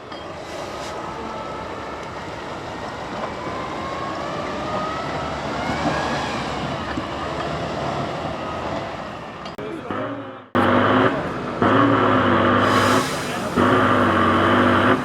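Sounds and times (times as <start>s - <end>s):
truck engine revving: 2.2s - 15.0s.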